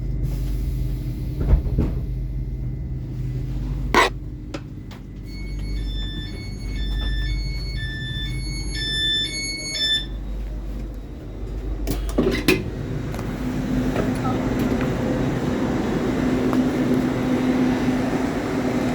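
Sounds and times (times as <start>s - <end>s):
low train hum: 0.0s - 18.9s.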